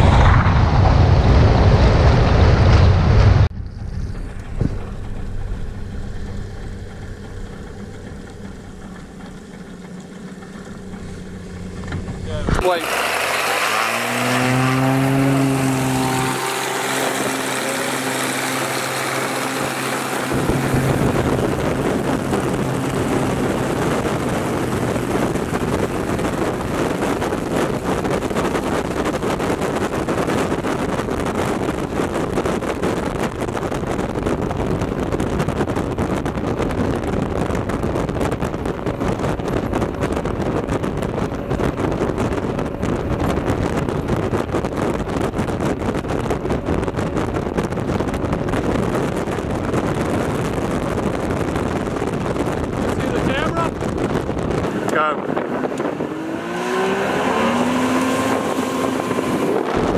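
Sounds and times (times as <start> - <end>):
plane engine and propeller drone: 0.0 - 59.9
wind buffeting microphone: 0.0 - 59.9.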